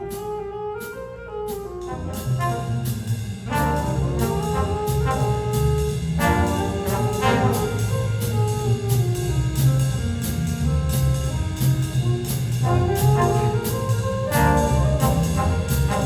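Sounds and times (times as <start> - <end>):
brass chords: 0.0 - 9.9, 10.6 - 16.0
big band swing jazz: 0.0 - 16.0.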